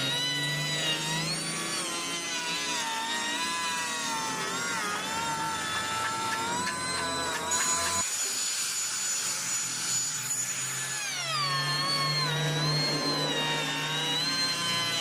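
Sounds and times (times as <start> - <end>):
power tool motor whine cutting wood: 0.0 - 15.0.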